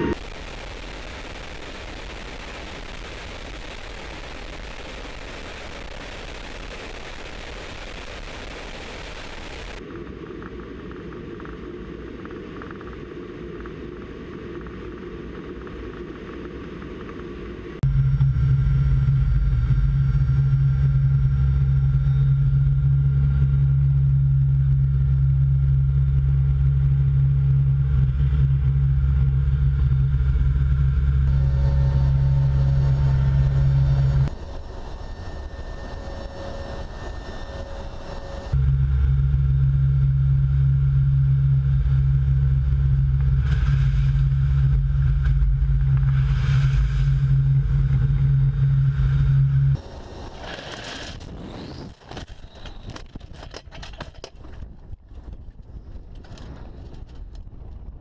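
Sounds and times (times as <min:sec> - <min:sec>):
aircraft engines droning inside cabin: 0:00.0 - 0:58.0.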